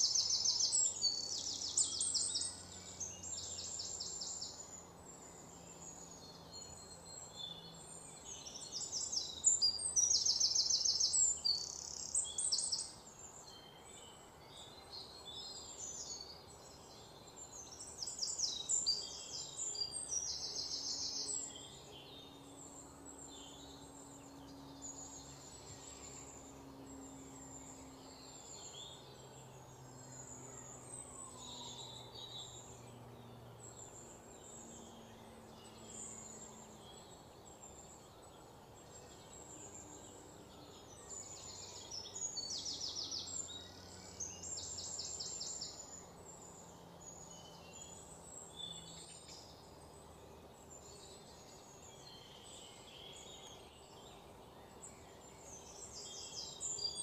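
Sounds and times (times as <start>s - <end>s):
faint low hum: 0.0s - 57.0s
small birds chirping: 0.0s - 57.0s.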